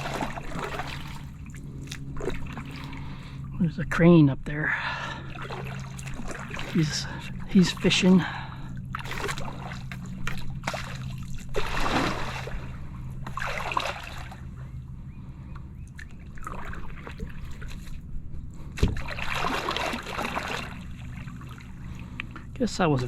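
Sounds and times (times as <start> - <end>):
kayak paddle swishing through water: 0.0 - 3.5, 5.0 - 14.7, 15.9 - 22.2.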